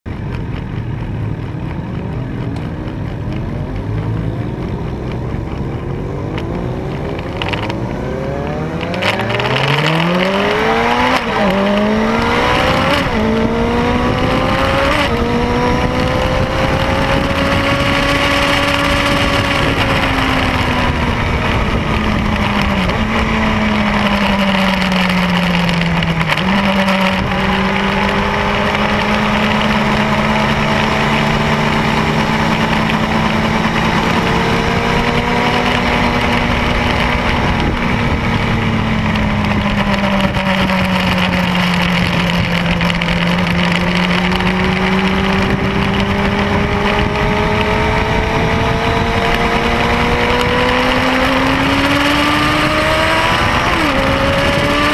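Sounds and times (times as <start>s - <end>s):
motorcycle engine accelerating: 0.1s - 54.9s
wind rushing: 6.1s - 54.9s.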